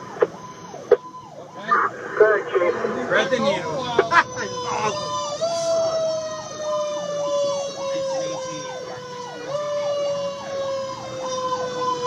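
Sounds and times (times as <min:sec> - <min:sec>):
fire engine siren sweeping: 0:00.0 - 0:12.0
steady siren tone: 0:00.0 - 0:12.0.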